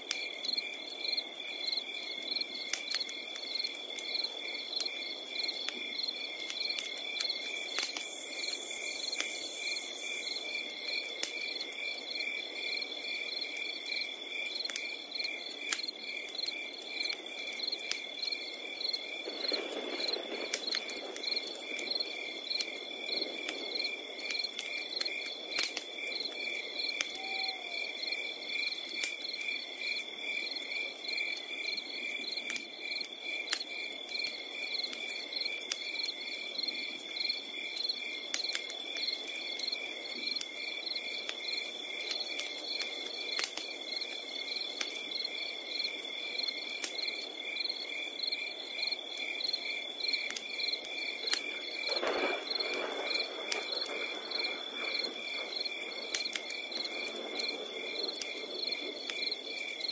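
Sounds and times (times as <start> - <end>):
campfire crackling: 0.0 - 59.9
crickets chirping: 0.1 - 59.9.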